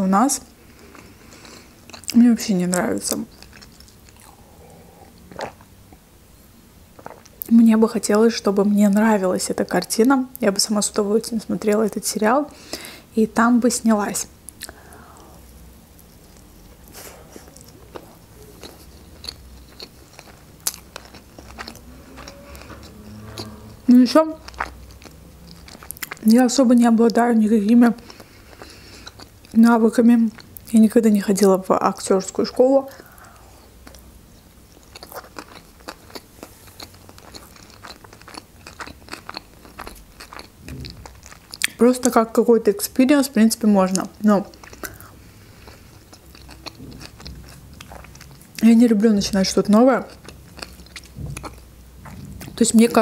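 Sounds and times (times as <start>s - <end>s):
person chewing with wet mouth sounds: 0.6s - 6.0s, 6.9s - 7.6s, 14.5s - 29.6s, 30.2s - 42.4s, 43.8s - 53.0s.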